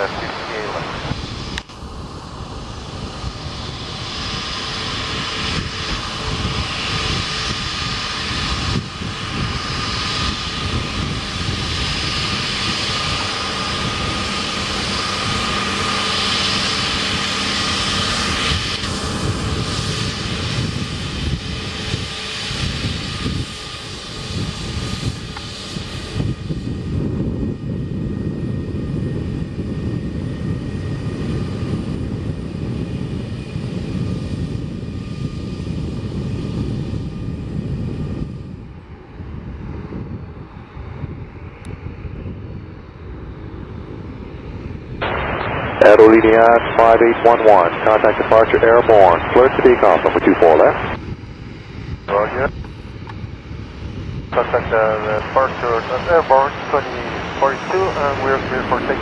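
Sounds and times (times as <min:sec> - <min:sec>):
jet engine rumble: 0:00.0 - 0:59.0
jet engine whine: 0:00.0 - 0:59.0.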